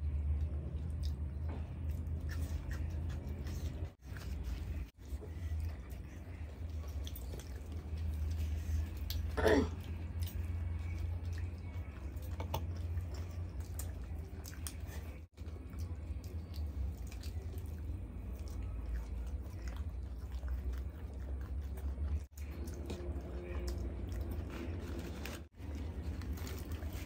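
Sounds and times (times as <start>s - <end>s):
chewing and mouth sounds: 0.0s - 27.0s
steady low hum: 0.0s - 27.0s.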